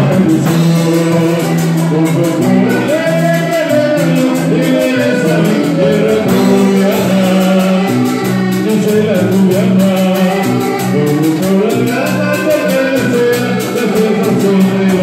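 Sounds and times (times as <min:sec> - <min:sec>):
bass notes: 0:00.0 - 0:15.0
person singing: 0:00.0 - 0:15.0.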